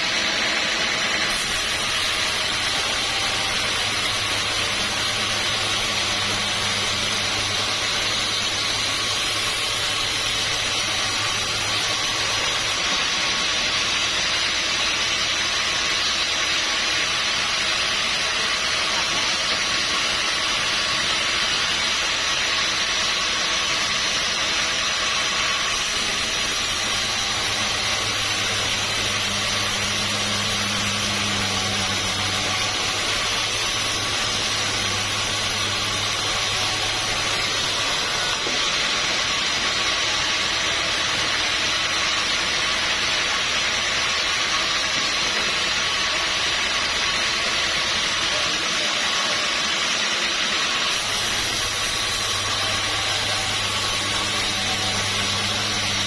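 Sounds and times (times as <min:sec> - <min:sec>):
sawmill machinery hiss: 0:00.0 - 0:56.0.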